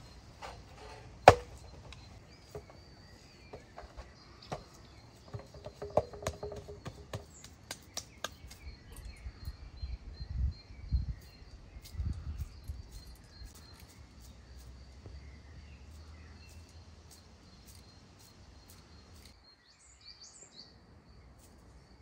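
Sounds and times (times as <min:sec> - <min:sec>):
birds chirping: 0:00.0 - 0:21.3.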